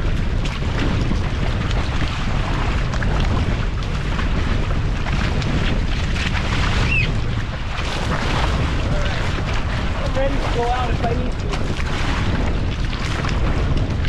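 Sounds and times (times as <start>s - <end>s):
water rushing and splashing: 0.0s - 14.0s
wind buffeting microphone: 0.0s - 14.0s.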